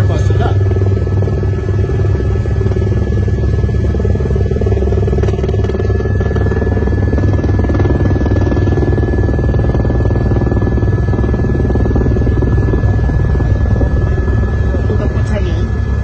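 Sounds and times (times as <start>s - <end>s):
helicopter engine and rotor: 0.0s - 16.0s
high turbine whine: 0.0s - 16.0s.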